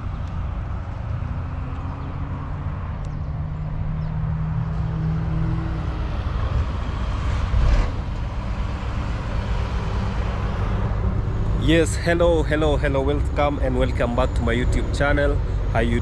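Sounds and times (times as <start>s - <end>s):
lorry engine humming: 0.0s - 16.0s
traffic rushing: 0.0s - 16.0s.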